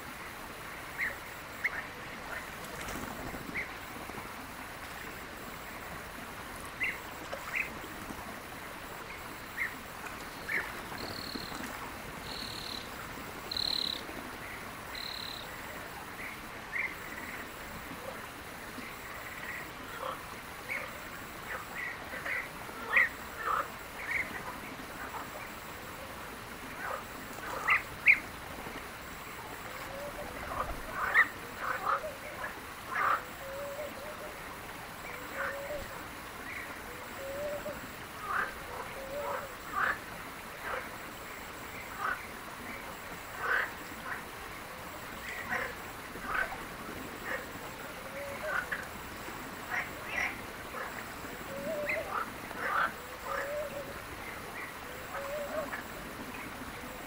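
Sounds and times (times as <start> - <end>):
faint steady background noise: 0.0 - 57.0.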